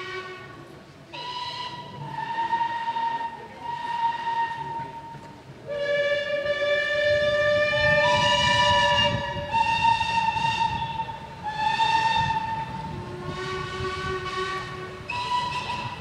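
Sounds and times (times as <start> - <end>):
steam engine rumble: 0.0 - 16.0
steam locomotive whistles: 0.0 - 16.0.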